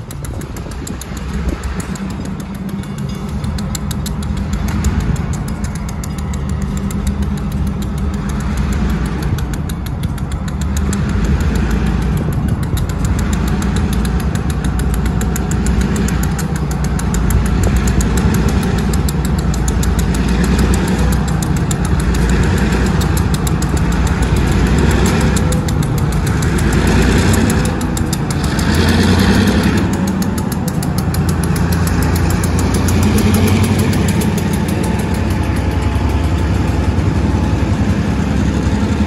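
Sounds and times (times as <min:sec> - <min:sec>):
locomotive engine rumble: 0:00.0 - 0:39.0.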